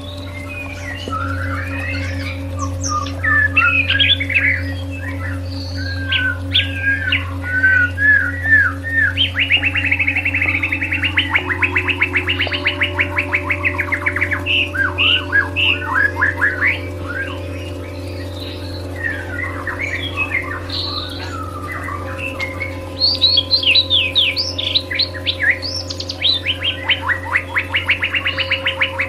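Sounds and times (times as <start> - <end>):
bird song: 0.0 - 29.0
droning music bed: 0.0 - 29.0.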